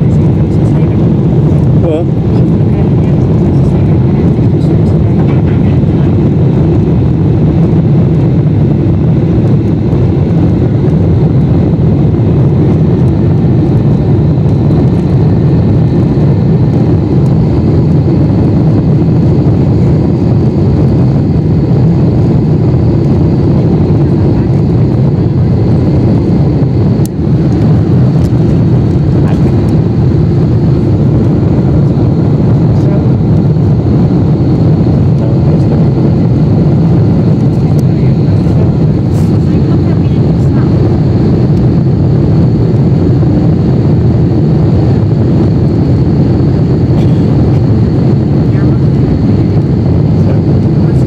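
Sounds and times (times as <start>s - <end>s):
engine and airflow rumble: 0.0s - 51.0s
faint high whine: 0.0s - 51.0s.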